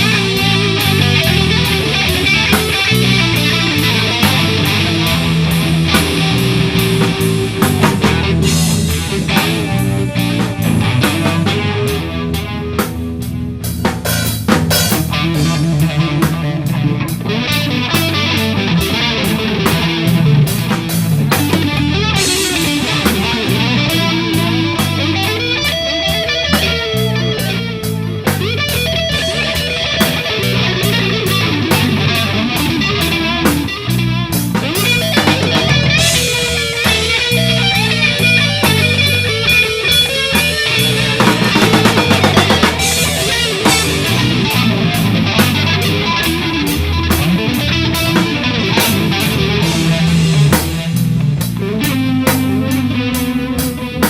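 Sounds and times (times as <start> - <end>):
bass line: 0.0 - 54.0
drums with cymbal strokes: 0.0 - 54.0
electric guitar lead lines: 0.0 - 54.0.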